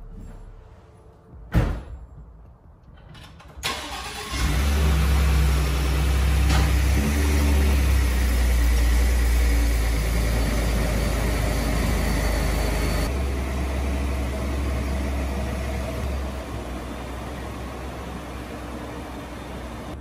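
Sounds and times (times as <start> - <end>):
pickup truck engine rumble: 3.8 - 20.0.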